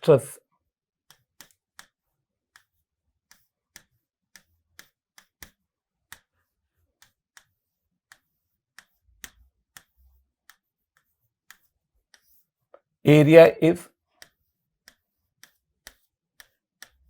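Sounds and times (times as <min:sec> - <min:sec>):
pen clicking on a writing surface: 0:01.0 - 0:12.5, 0:14.1 - 0:17.0.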